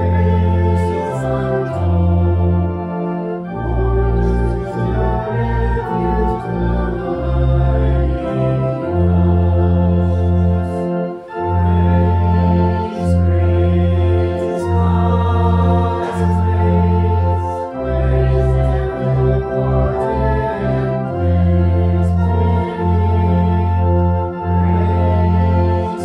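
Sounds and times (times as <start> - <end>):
organ playing slow chords: 0.0 - 26.0.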